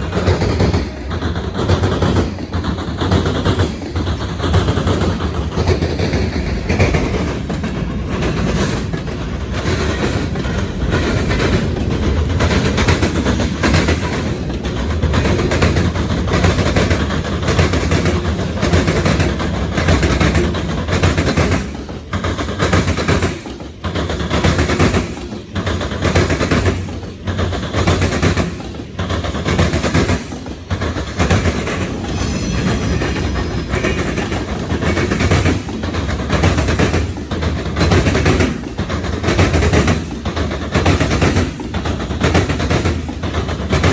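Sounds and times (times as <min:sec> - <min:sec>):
train wheels clattering over crossings: 0:00.0 - 0:43.9.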